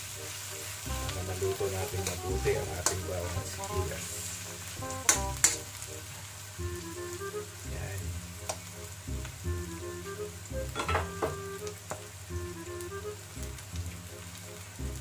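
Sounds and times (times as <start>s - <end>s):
background music: 0.0s - 15.0s
vegetables sizzling in a wok: 0.0s - 15.0s.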